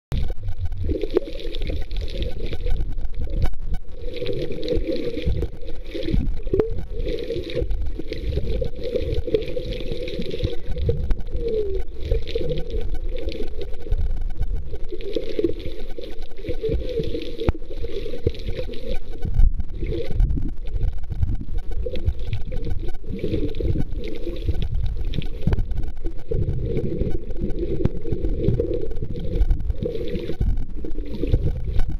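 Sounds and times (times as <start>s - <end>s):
muffled underwater sloshing: 0.1s - 31.9s.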